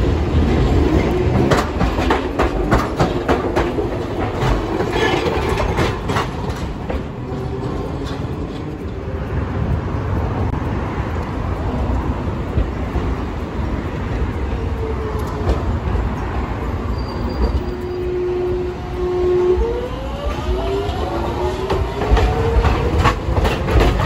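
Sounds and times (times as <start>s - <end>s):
road traffic: 0.0s - 24.0s
tram motor whine: 0.0s - 24.0s
tram rumbling along track: 0.0s - 24.0s.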